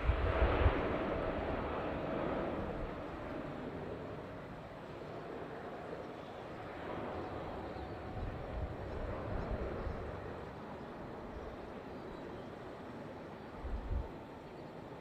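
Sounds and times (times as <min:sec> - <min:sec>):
jet aircraft engines: 0:00.0 - 0:15.0.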